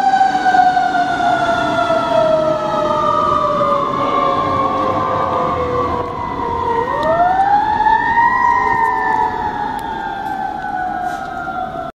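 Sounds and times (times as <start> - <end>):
fire truck siren wailing: 0.0 - 12.0
street traffic rumble: 0.0 - 12.0.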